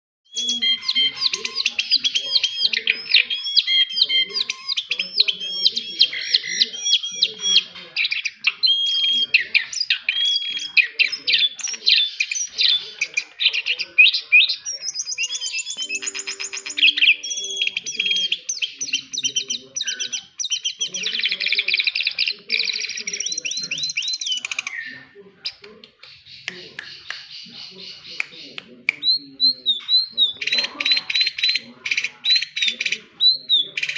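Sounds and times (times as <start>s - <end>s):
songbird chirping: 0.3s - 33.9s.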